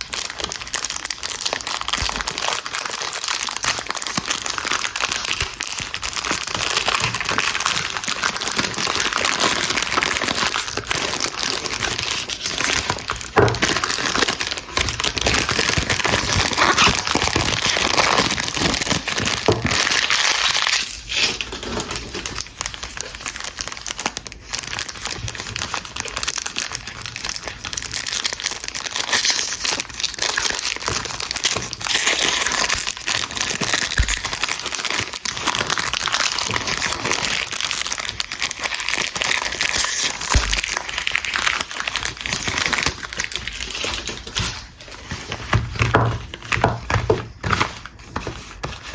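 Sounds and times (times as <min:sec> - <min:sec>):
wrapper crinkling: 0:00.0 - 0:48.9.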